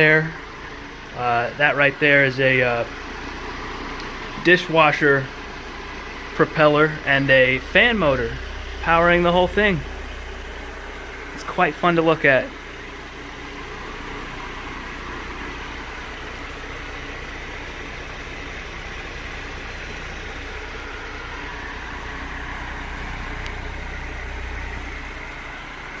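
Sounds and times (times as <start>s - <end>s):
electric fan motor humming: 0.0s - 26.0s.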